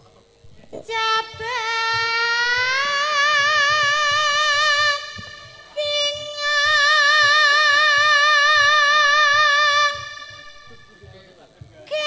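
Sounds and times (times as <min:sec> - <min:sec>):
soft low drum beats: 0:00.0 - 0:12.0
woman singing with vibrato: 0:00.8 - 0:10.9.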